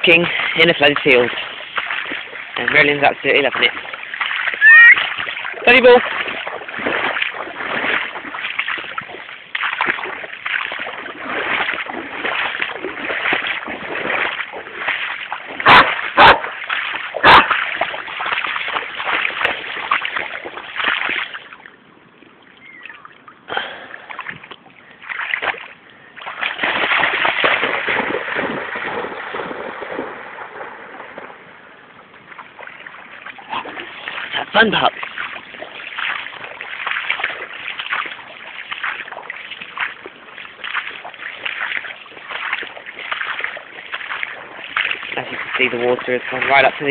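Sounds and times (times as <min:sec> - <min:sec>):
splashing through shallow water: 0:00.0 - 0:46.9.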